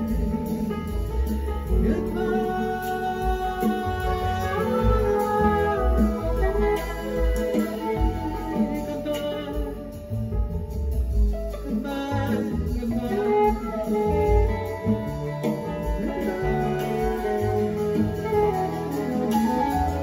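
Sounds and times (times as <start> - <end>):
instrumental guitar-led song: 0.0 - 20.0.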